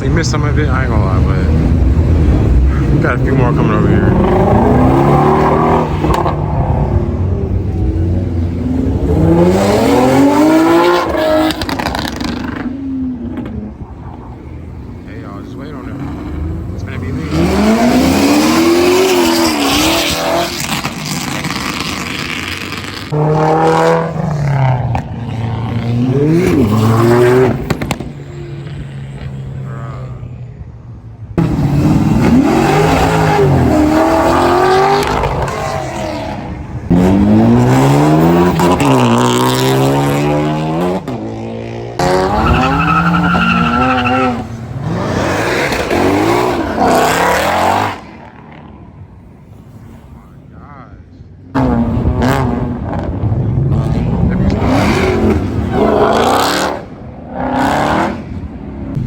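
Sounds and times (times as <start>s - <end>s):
car engines revving hard: 0.0s - 59.0s.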